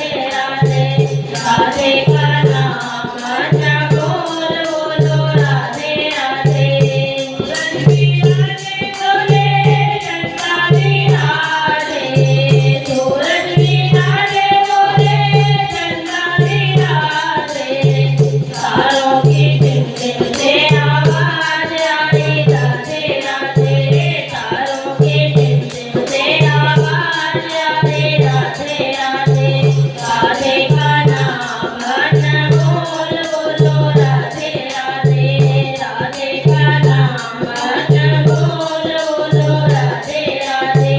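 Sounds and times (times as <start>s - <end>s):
jingling percussion: 0.0s - 40.9s
voices singing devotional song: 0.0s - 40.9s.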